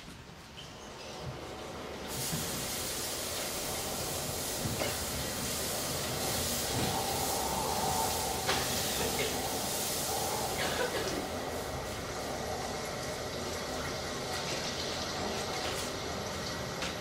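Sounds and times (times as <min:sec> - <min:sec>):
fog machine hissing: 0:01.4 - 0:17.0.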